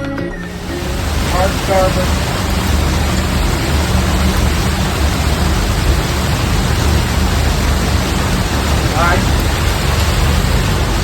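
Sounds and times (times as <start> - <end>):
heavy rain hissing: 0.4 - 11.0
low rumble: 0.5 - 11.0.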